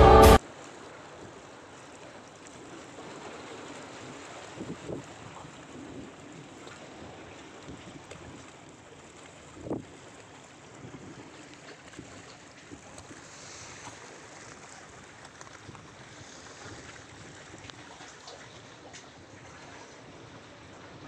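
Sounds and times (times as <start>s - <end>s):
sea waves: 0.0s - 21.0s.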